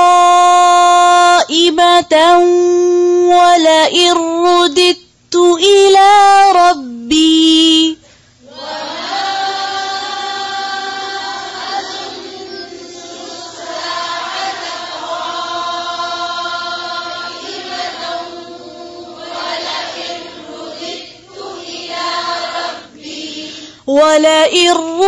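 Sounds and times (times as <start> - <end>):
woman chanting melodically: 0.0 - 25.0.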